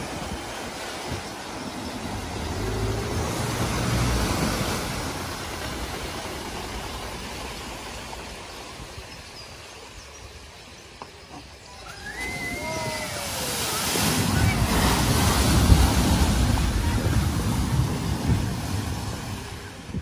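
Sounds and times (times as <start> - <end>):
car driving through water: 0.0 - 20.0
water surging and splashing: 0.0 - 20.0.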